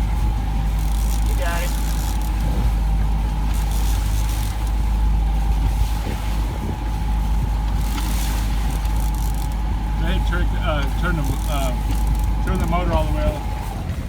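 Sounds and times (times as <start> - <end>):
boat motor rumbling: 0.0 - 14.0
thin steady whine: 0.0 - 14.0.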